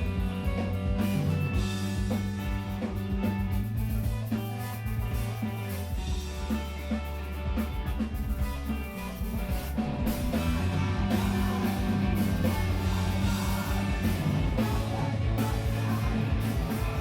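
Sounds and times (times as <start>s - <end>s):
screamo band playing loud rock: 0.0s - 17.0s.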